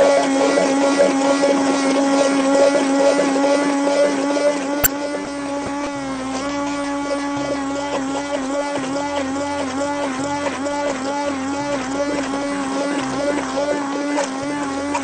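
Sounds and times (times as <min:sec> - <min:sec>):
hand blender motor whine: 0:00.0 - 0:15.0.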